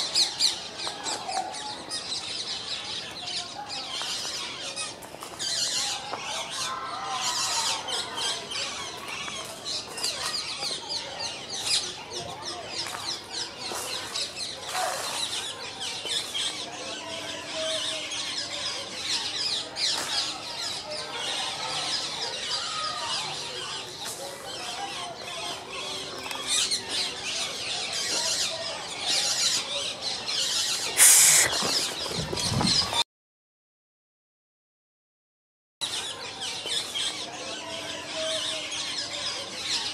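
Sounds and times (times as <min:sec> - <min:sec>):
birds chirping and calling: 0:00.0 - 0:33.0, 0:35.8 - 0:39.9.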